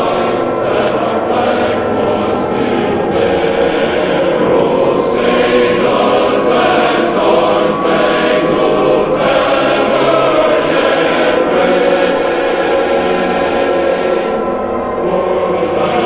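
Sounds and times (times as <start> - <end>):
choir singing long notes: 0.0 - 16.0.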